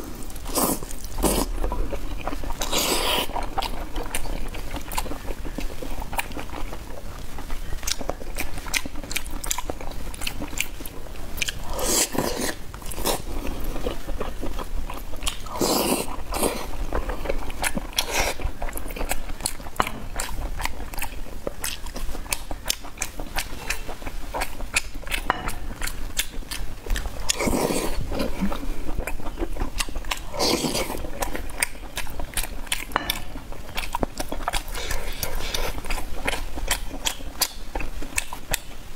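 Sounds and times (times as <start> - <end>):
person biting and chewing food: 0.0 - 38.8.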